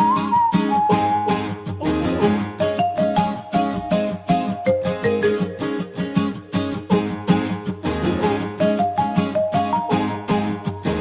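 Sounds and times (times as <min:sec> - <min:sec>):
strummed string music: 0:00.0 - 0:11.0.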